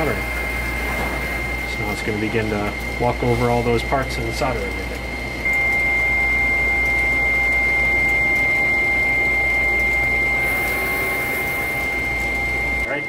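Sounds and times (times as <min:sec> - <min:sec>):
soldering machine whine and hum: 0:00.0 - 0:13.0.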